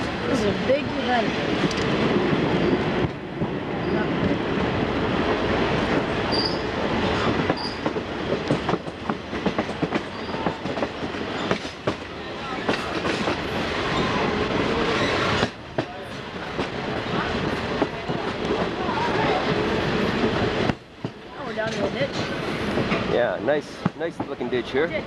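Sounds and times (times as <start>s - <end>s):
train rail noise: 0.0s - 25.0s.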